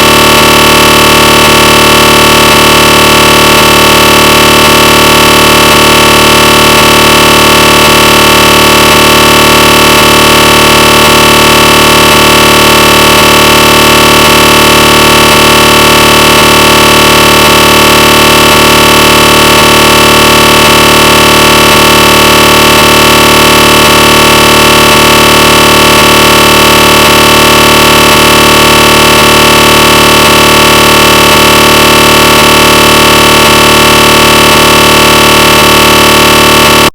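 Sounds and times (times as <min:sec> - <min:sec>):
mri scanner buzzing drone: 0:00.0 - 0:36.9.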